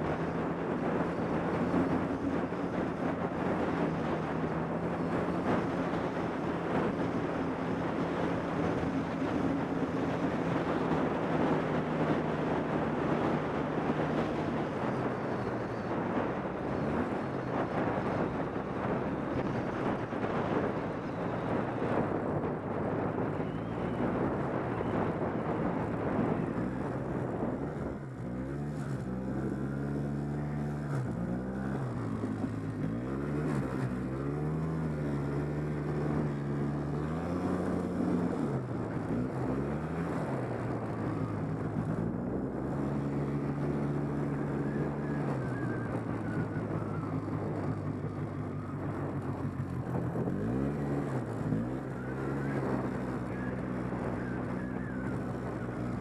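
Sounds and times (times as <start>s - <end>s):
atv engine revving: 0.0s - 56.0s
wind noise: 0.0s - 56.0s.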